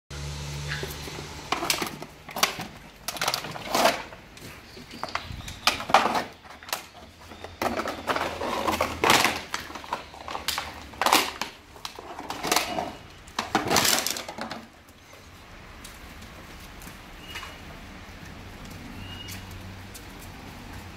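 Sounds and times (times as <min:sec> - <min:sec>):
dogs scuffling: 0:00.6 - 0:20.9.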